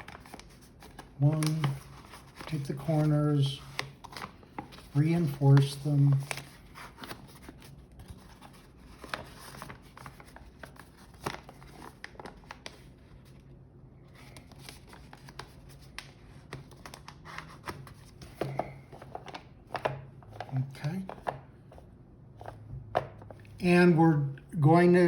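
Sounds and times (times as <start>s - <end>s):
paper rustling and creasing: 0.0s - 23.4s
low steady hum: 0.0s - 25.0s.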